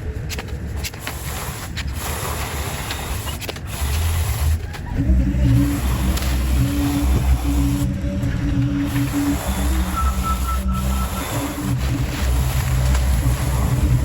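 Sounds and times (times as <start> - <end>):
engine rumbling: 0.0 - 14.0
steady hum: 0.0 - 14.0.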